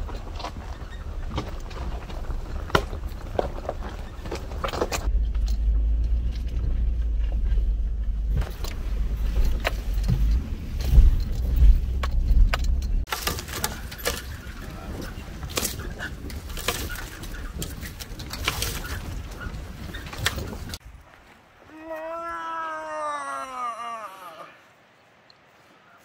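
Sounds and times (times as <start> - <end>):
knocks and rattles over bumps: 0.0 - 21.2
vehicle rumbling on dirt road: 0.0 - 21.6.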